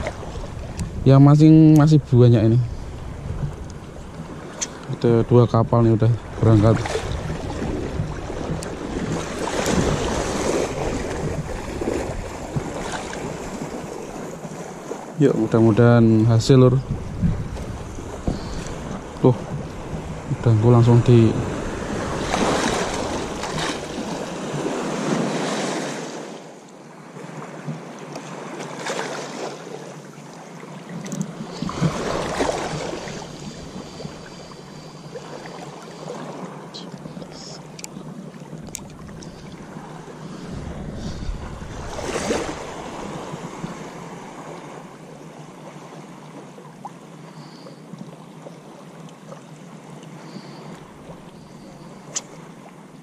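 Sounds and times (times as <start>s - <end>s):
small sea waves splashing: 0.0s - 53.0s.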